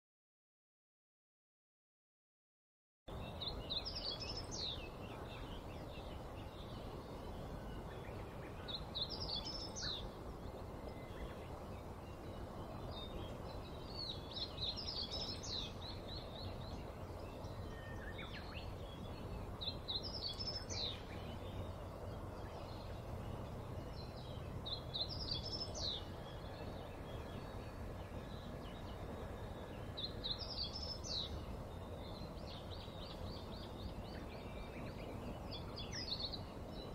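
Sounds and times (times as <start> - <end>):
faint low hum: 3.1 - 36.9
outdoor background noise: 3.1 - 36.9
songbird singing: 3.1 - 36.9.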